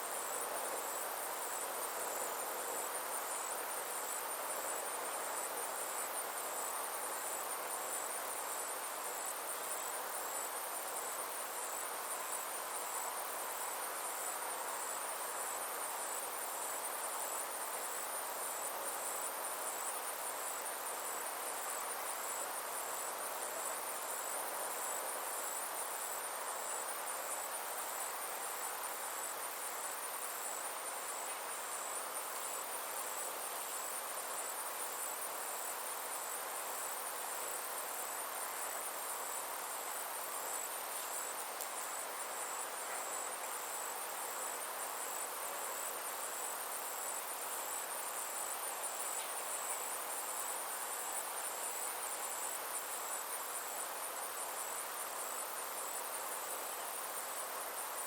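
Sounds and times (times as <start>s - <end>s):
insects trilling: 0.0s - 58.0s
soft constant hiss: 0.0s - 58.0s.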